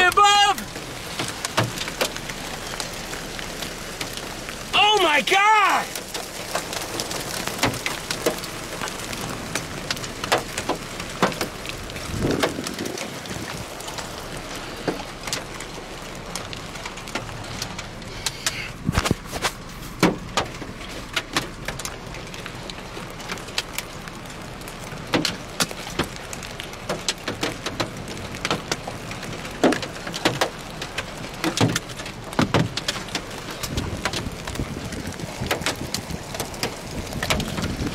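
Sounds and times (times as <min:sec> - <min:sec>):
heavy rain falling: 0:00.0 - 0:37.9
large raindrops tapping: 0:00.0 - 0:37.9.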